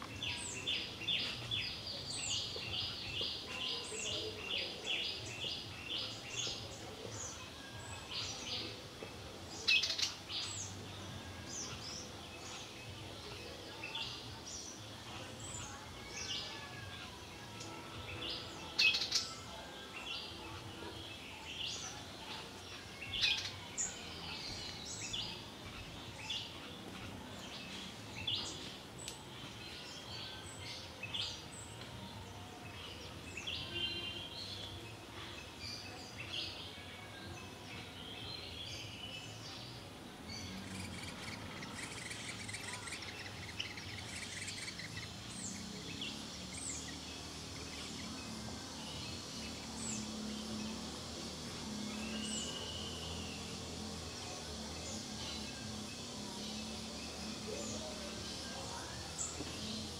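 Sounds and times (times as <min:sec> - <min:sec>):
birds chirping and calling: 0:00.0 - 0:36.7, 0:37.4 - 0:59.9.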